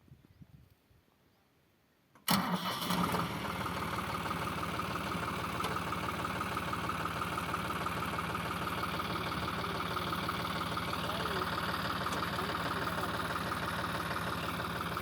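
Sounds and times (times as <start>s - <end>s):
tractor engine idling: 2.3s - 15.0s.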